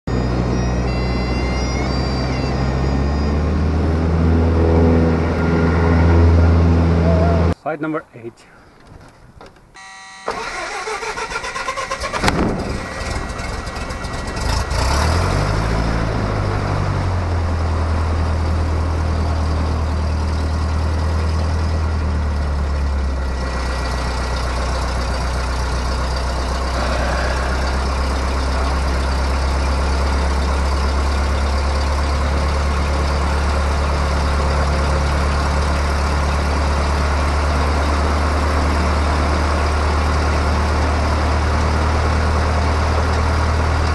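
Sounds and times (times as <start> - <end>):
aircraft engine starting and idling: 0.1 - 7.6, 8.6 - 43.9.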